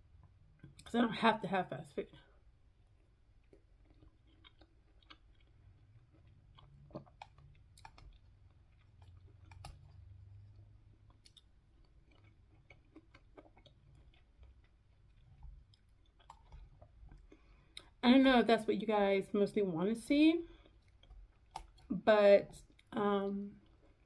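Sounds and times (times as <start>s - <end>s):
faint chewing: 0.0s - 1.0s, 2.1s - 18.4s, 19.2s - 22.0s, 22.6s - 24.0s.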